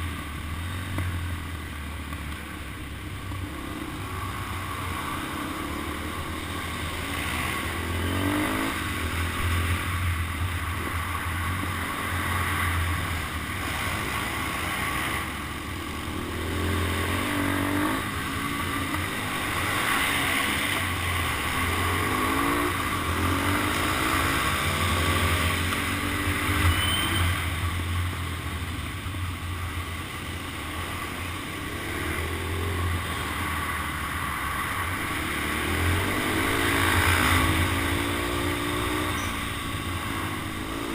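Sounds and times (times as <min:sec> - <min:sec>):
motorcycle engine revving: 0:03.2 - 0:28.2, 0:30.4 - 0:40.9.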